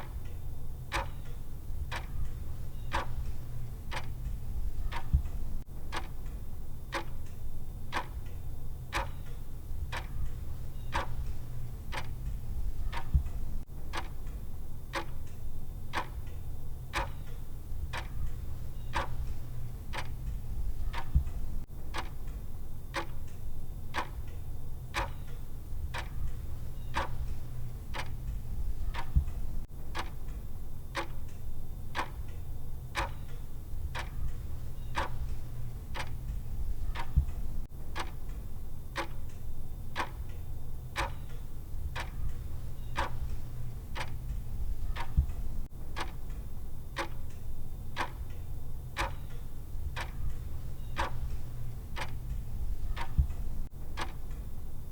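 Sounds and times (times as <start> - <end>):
clock ticking: 0.0 - 32.4, 33.0 - 54.9
steady low hum: 0.0 - 54.9.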